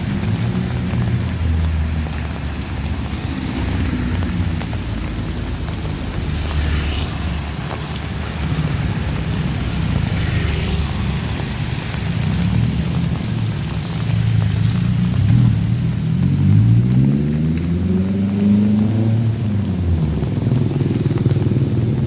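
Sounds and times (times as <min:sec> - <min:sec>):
rain hissing: 0:00.0 - 0:22.0
vehicle engine humming: 0:00.0 - 0:22.0.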